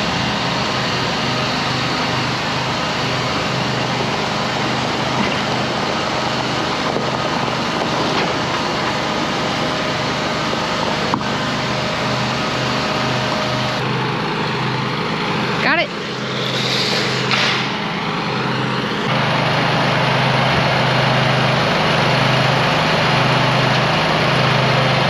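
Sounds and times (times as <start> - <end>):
pickup truck engine running: 0.0 - 25.0
trailer rolling on gravel: 0.0 - 25.0.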